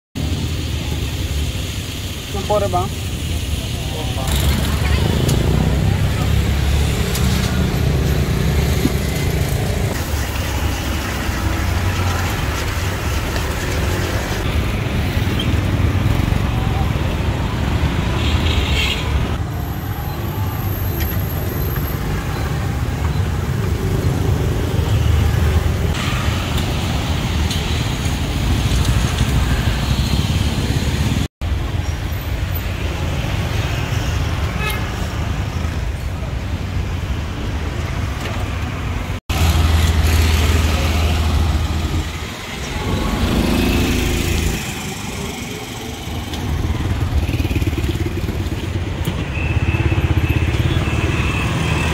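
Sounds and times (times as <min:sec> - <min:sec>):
vehicle engines rumbling: 0:00.2 - 0:51.9.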